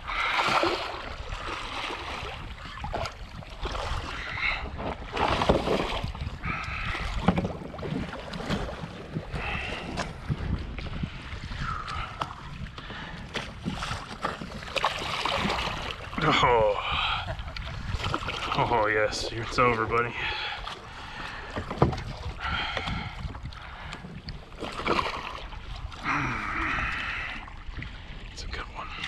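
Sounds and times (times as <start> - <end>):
water splashing against kayak: 0.0 - 29.0
wind buffeting microphone: 0.0 - 29.0.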